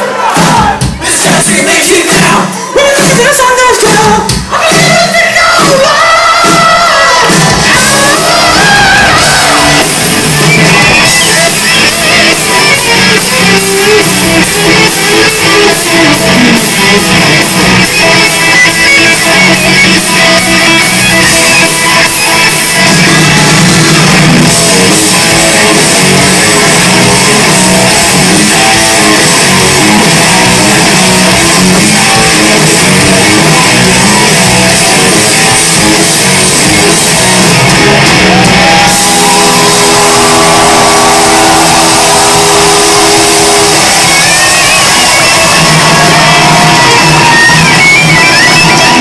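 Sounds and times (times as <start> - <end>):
live hard rock band playing: 6.4 - 49.0.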